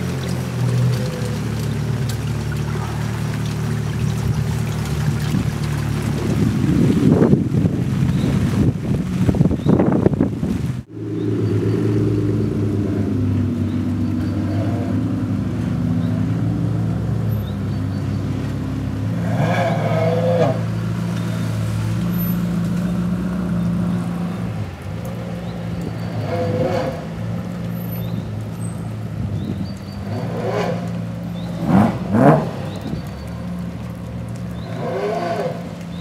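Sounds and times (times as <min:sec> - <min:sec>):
car engine at low revs: 0:00.0 - 0:36.0.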